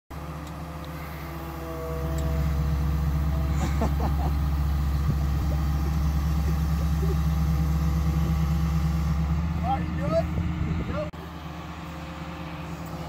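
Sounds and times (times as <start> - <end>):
excavator diesel engine running: 0.1 - 13.0.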